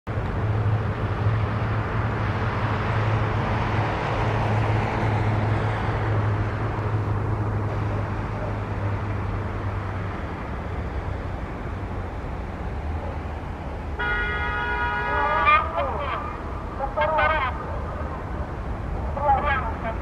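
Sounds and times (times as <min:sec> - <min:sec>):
constant low hum: 0:00.1 - 0:20.0
electric train rumbling: 0:00.1 - 0:20.0.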